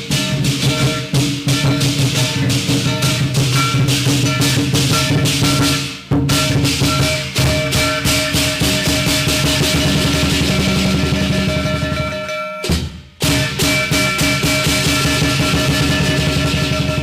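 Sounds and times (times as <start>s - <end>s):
big drum beating: 0.0s - 17.0s
crashing cymbals: 0.0s - 17.0s
ringing gong: 0.0s - 17.0s.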